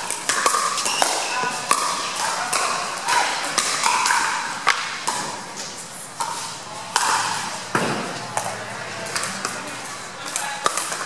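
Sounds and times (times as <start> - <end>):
murmur of voices in a hall: 0.0 - 11.0
paddles hitting plastic ball: 0.0 - 11.0.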